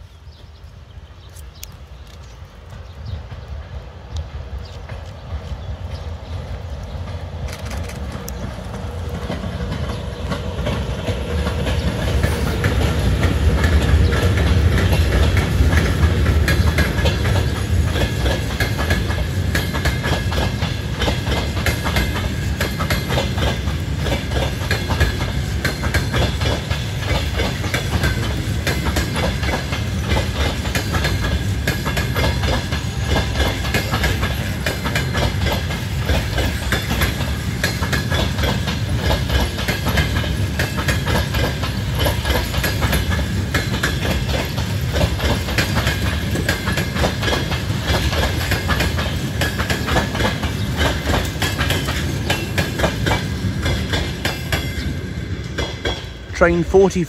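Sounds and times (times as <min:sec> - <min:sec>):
electric locomotive passing: 0:00.0 - 0:57.0
train wheels clacking over rail joints: 0:01.5 - 0:56.3.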